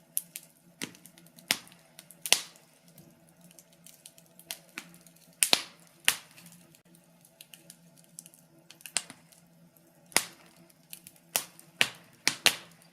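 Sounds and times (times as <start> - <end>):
wood fire crackling: 0.0 - 12.9.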